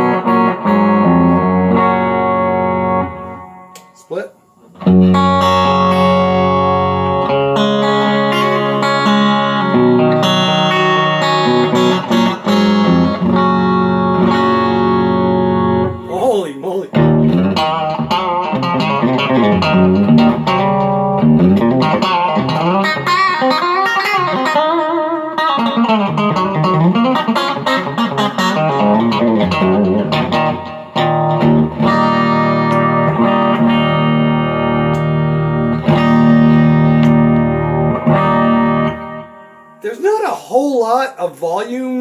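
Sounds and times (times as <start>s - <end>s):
electric guitar through an amp: 0.0s - 4.0s, 4.6s - 16.1s, 16.9s - 39.9s.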